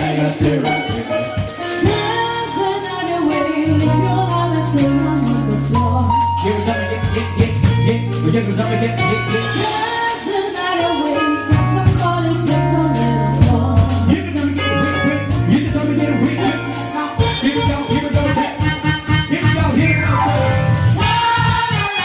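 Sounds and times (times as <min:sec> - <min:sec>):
drum kit beat: 0:00.0 - 0:22.0
keyboards: 0:00.0 - 0:22.0
low bass notes: 0:00.0 - 0:22.0
person singing: 0:00.0 - 0:22.0.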